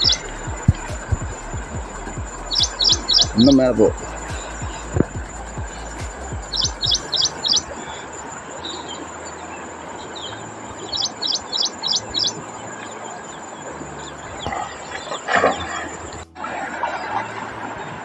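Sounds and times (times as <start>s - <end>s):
bird chirping: 0.0s - 17.2s
steady background hiss: 0.0s - 18.0s.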